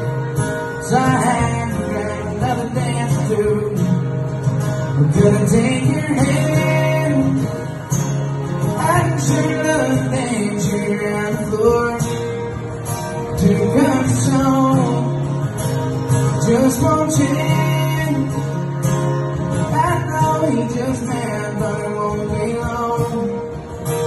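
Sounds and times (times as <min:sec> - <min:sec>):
strummed acoustic guitars: 0:00.0 - 0:24.0
man singing into a microphone: 0:00.7 - 0:12.5, 0:13.1 - 0:15.4, 0:16.2 - 0:18.7, 0:19.6 - 0:23.8.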